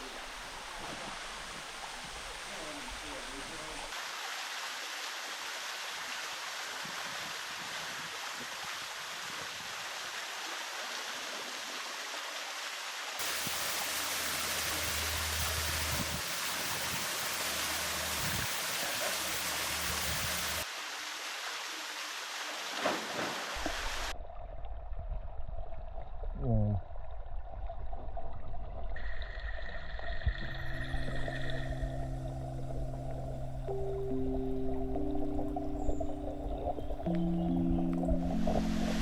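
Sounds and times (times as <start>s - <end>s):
creek water rushing: 0.0s - 24.1s, 30.5s - 39.0s.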